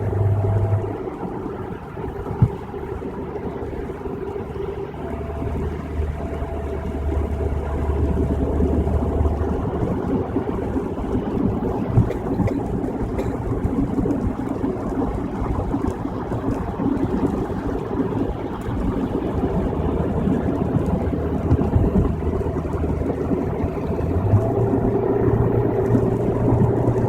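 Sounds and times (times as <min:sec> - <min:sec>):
low hum: 0:00.0 - 0:27.0
road and tyre noise in car: 0:00.0 - 0:27.0.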